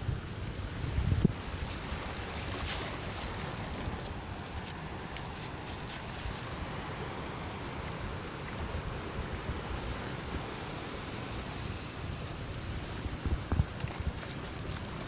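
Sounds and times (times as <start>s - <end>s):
wind buffeting microphone: 0.0s - 6.8s, 7.8s - 15.0s
small waves on rocky shore: 0.7s - 15.0s.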